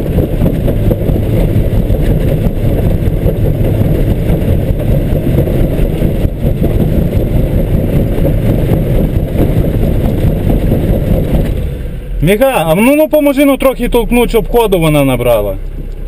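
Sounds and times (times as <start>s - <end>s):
car engine running under load: 0.0s - 16.0s.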